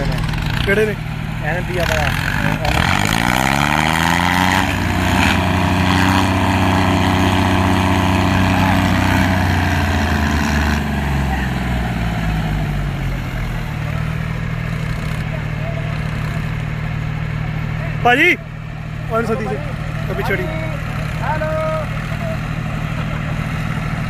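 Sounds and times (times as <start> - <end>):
tractor engine revving: 0.0 - 24.0.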